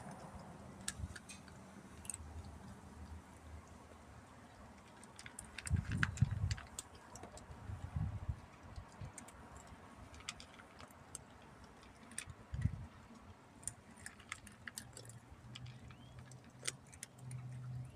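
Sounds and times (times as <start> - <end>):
cat eating crunching: 0.0 - 3.8, 4.5 - 17.9.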